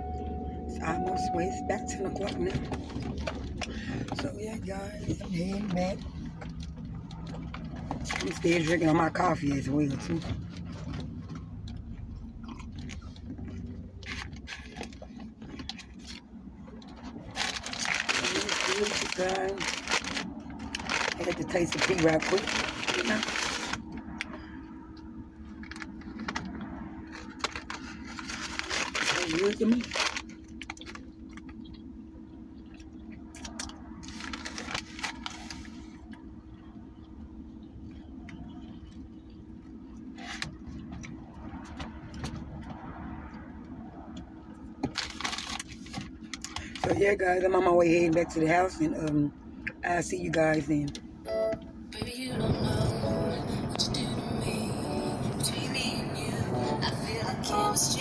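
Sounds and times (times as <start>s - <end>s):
car engine humming: 0.0s - 58.0s.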